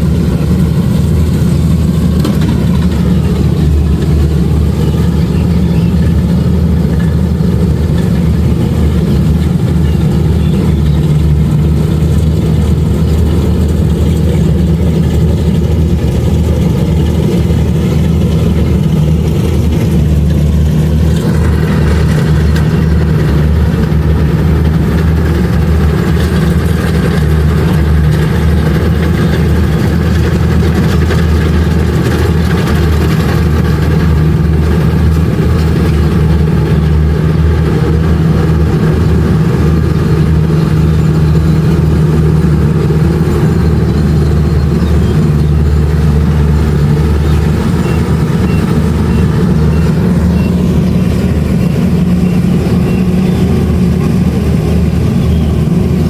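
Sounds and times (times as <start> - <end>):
combine harvester engine droning: 0.0 - 56.0
machinery noise: 0.0 - 56.0.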